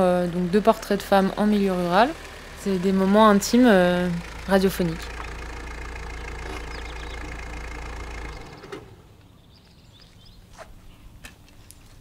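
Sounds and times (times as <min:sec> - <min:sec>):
van engine idling: 0:00.0 - 0:10.4.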